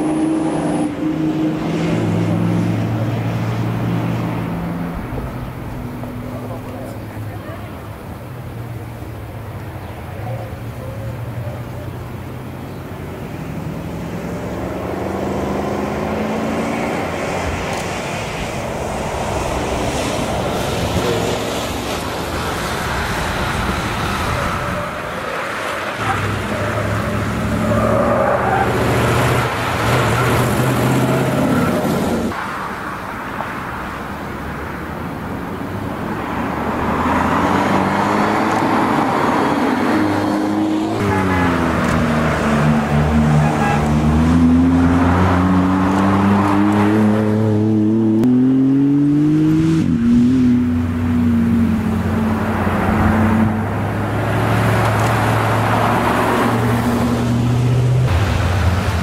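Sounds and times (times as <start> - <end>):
race car engines accelerating: 0.0 - 32.9, 35.2 - 59.0.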